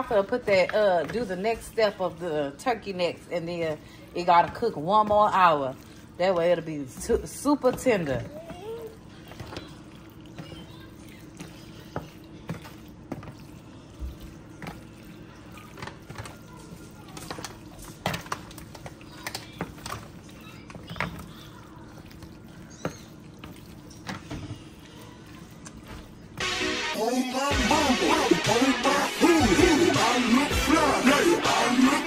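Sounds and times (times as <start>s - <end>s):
wooden spoon stirring macaroni: 0.0s - 29.4s.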